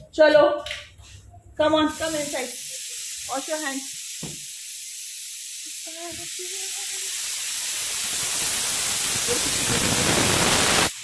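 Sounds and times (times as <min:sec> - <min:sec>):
pressure cooker whistle hissing: 0:02.0 - 0:11.0.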